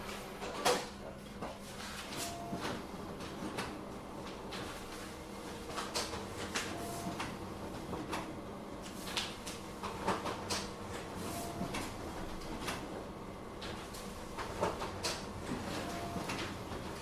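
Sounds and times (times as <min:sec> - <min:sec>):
office machinery hum: 0:00.0 - 0:17.0.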